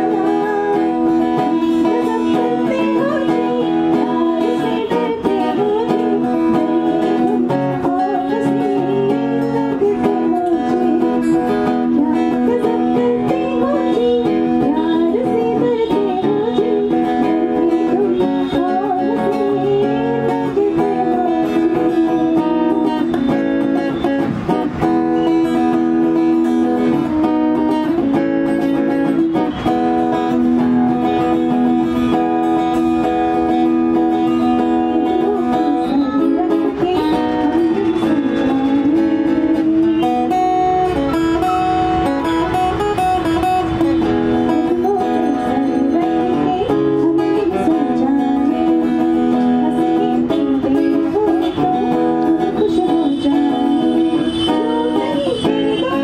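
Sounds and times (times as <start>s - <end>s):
woman singing: 0.0s - 24.3s, 25.0s - 41.4s, 44.1s - 56.0s
acoustic guitar strumming: 0.0s - 56.0s.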